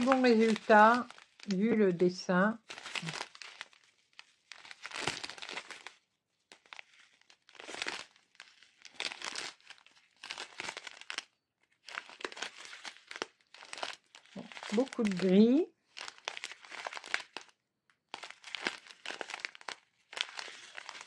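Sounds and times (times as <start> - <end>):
plastic sachets crinkling: 0.0 - 21.0.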